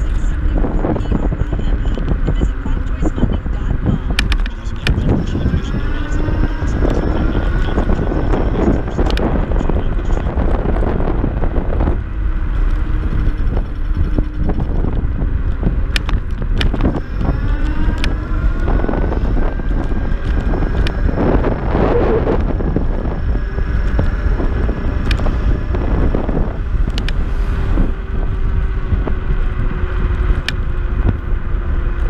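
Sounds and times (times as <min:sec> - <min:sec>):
electric scooter motor whine: 0:00.0 - 0:32.0
wind buffeting on microphone: 0:00.0 - 0:32.0.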